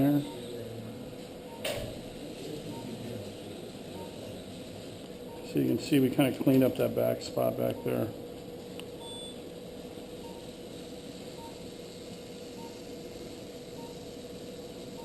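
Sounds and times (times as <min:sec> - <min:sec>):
equipment hum with steady tone: 0:00.0 - 0:15.0.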